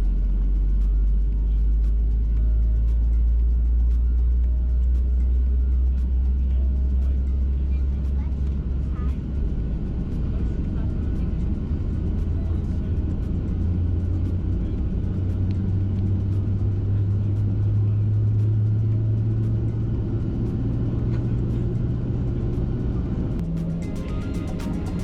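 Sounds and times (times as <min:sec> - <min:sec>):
aircraft engine and cabin hum: 0:04.7 - 0:25.0.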